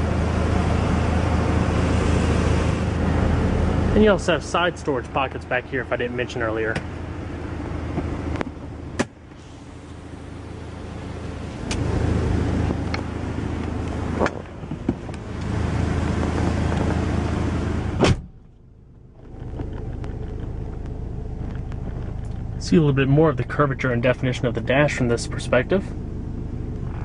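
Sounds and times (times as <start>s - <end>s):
car engine hum: 0.0s - 27.0s.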